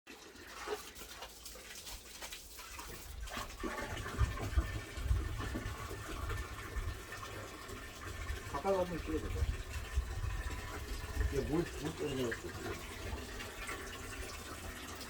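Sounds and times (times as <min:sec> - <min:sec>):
water falling and splashing: 0:00.1 - 0:15.0.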